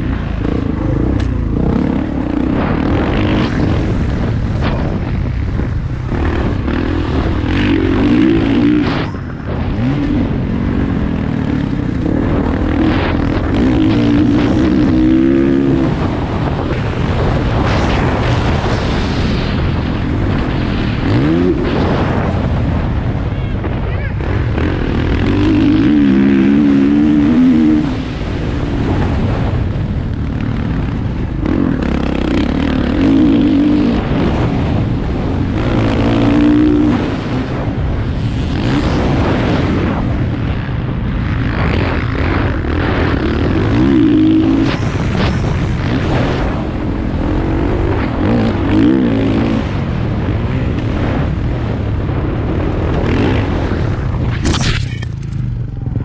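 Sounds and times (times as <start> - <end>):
dirt bike engine revving: 0.0 - 23.2, 24.2 - 55.8.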